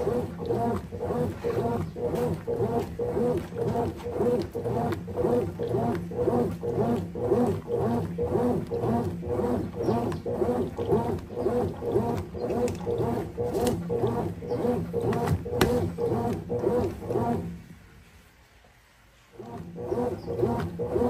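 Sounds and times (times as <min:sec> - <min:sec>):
washing machine agitator groaning: 0:00.0 - 0:17.8, 0:19.3 - 0:21.0.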